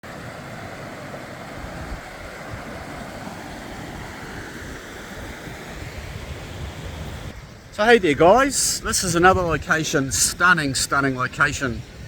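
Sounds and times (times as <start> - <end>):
wind buffeting microphone: 0.7 - 12.0.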